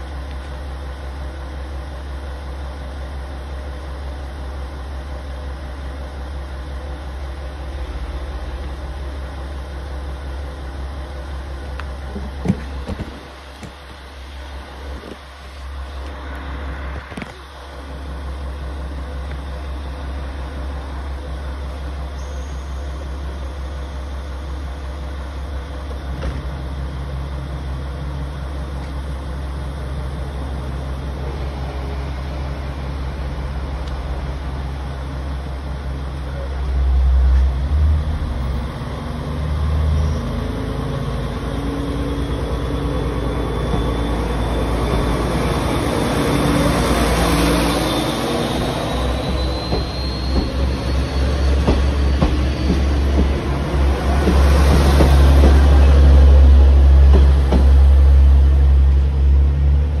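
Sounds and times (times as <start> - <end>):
diesel railcar engine: 0.0 - 60.0
train whine: 0.0 - 60.0.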